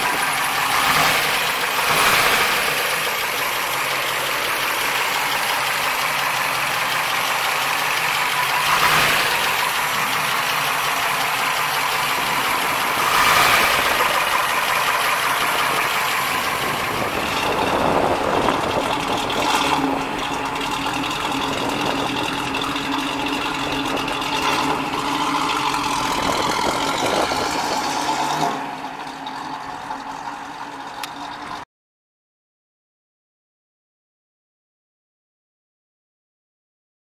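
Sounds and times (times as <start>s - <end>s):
car engine idling: 0.0s - 31.6s.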